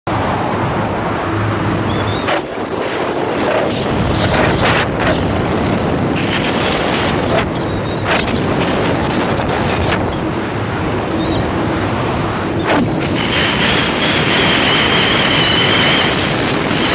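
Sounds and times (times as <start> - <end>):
speedboat engine drone: 0.1 - 16.9
wind on microphone: 0.1 - 16.9.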